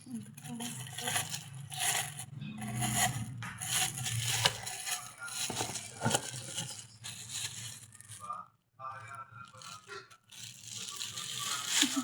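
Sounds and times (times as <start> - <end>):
plastic and metal parts rattling: 0.0 - 8.2, 9.7 - 12.0
packaging crinkling and scraping: 0.0 - 8.4, 9.4 - 12.0.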